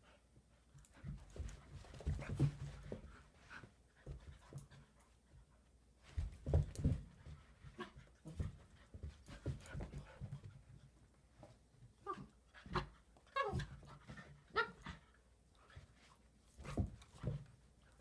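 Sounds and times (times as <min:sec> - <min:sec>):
dogs play-fighting: 0:00.1 - 0:18.0.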